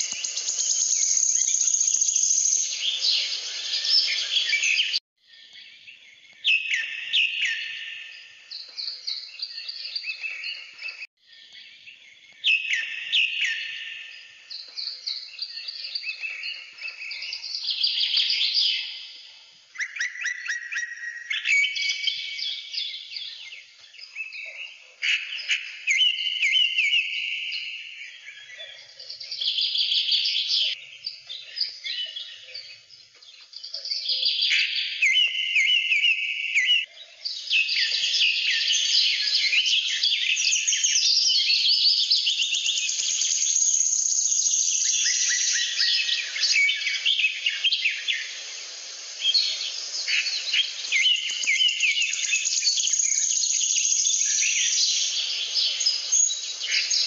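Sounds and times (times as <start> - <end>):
birds chirping and calling: 0.0 - 5.0, 6.5 - 19.2, 19.8 - 57.0.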